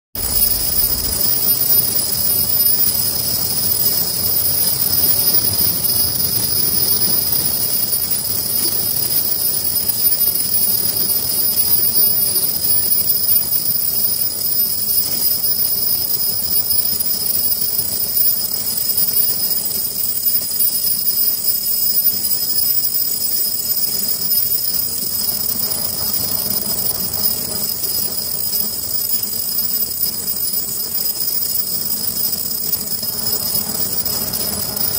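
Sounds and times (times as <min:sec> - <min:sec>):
high-pitched machine whine: 0:00.2 - 0:34.9
machine clatter and rattle: 0:00.2 - 0:34.9.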